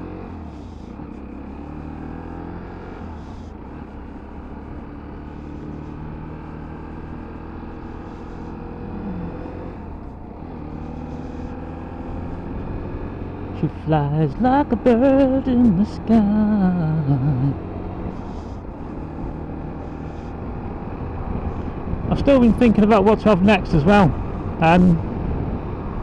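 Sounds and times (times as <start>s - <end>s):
small motorbike engine: 0.0s - 26.0s.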